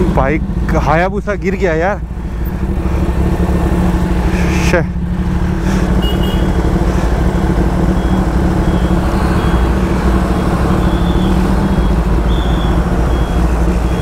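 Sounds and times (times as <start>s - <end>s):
bus engine running: 0.0s - 14.0s
motorcycle engine idling: 0.0s - 14.0s.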